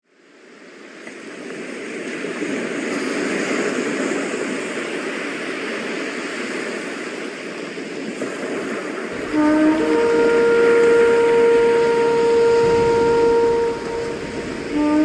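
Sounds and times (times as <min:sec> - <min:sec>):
wind: 0:00.0 - 0:15.0
rushing water: 0:00.4 - 0:15.0.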